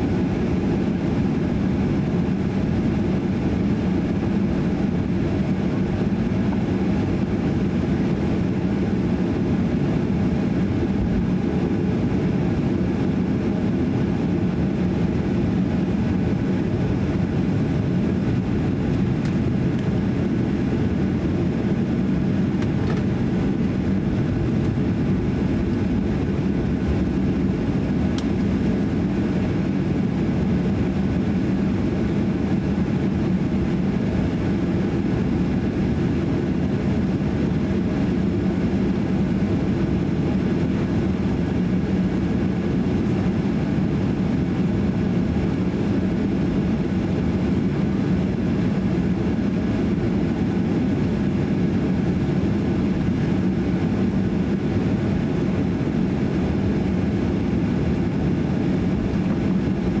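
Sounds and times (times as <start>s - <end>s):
airplane cabin engine drone: 0.0s - 60.0s.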